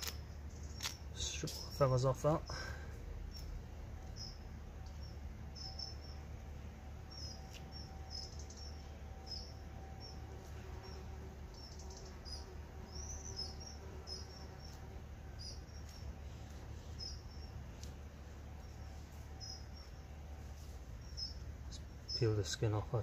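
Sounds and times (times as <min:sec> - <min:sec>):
low steady rumble: 0:00.0 - 0:23.0
small birds chirping: 0:00.0 - 0:23.0.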